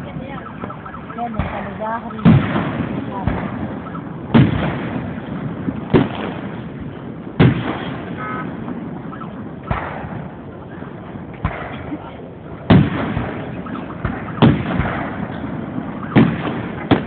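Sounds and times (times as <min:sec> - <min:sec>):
rumbling echo: 0:00.0 - 0:17.0.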